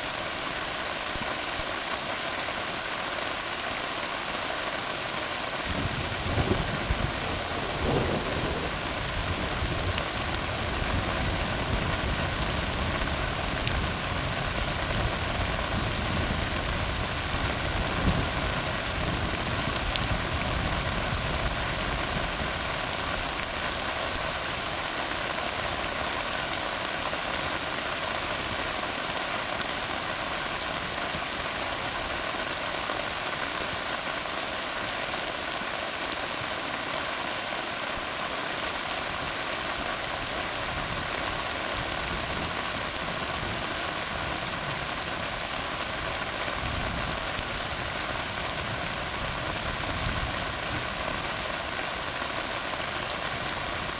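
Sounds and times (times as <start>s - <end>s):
rain falling on road: 0.0s - 53.9s.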